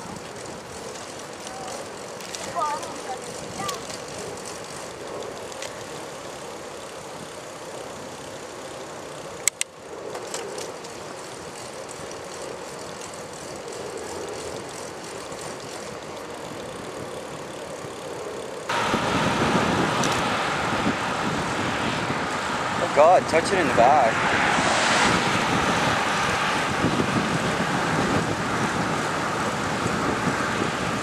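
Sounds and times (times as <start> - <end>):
wind and road noise: 0.0 - 31.0.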